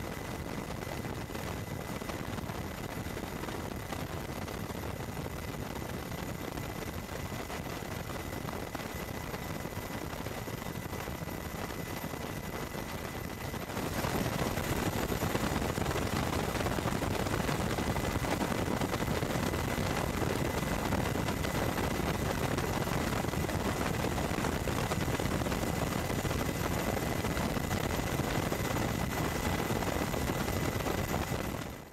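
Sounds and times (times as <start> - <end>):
helicopter rotor and turbine: 0.0 - 31.9.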